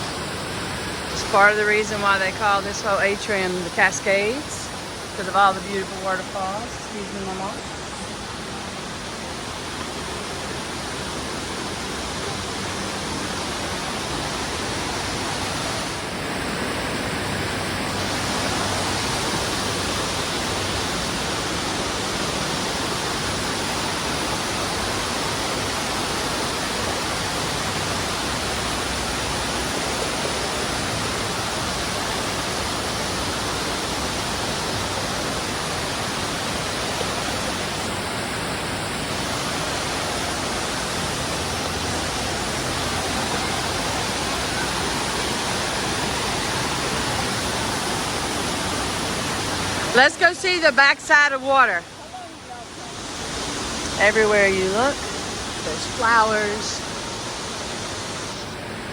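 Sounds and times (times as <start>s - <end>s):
indoor waterfall rushing: 0.0s - 58.9s.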